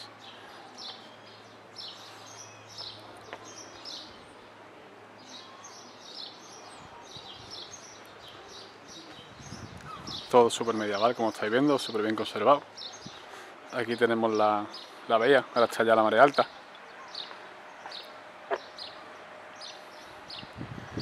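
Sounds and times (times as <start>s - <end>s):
small birds chirping: 0.0s - 4.6s, 5.2s - 21.0s
outdoor background noise: 0.0s - 21.0s.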